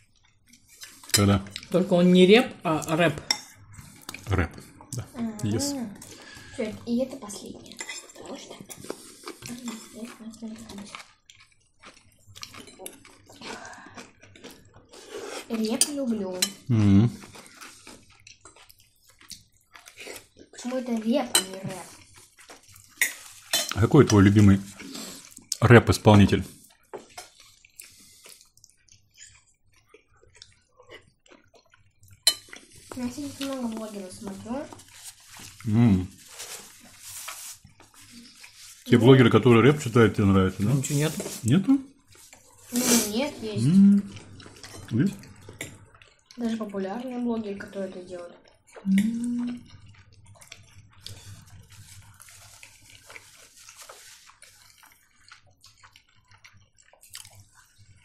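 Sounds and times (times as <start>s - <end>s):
quiet chewing: 0.0s - 58.0s.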